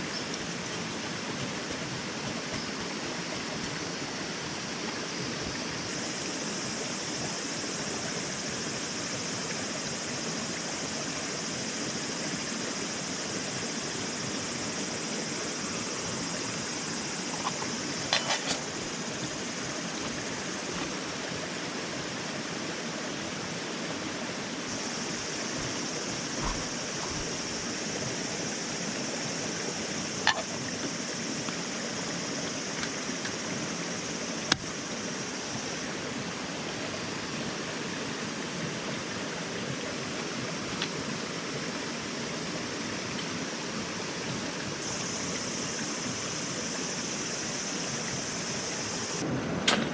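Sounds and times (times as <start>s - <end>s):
high hiss: 0.0s - 49.9s
rushing noise like running water: 0.0s - 49.9s.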